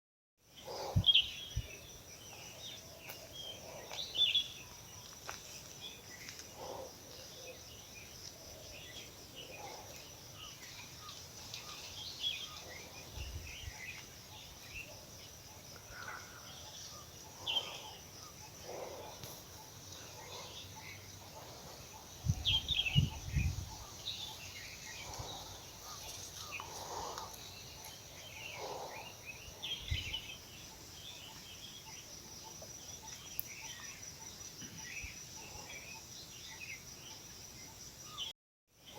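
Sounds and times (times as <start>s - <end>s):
small birds chirping: 0.5s - 38.3s
high insect trill: 0.7s - 38.3s.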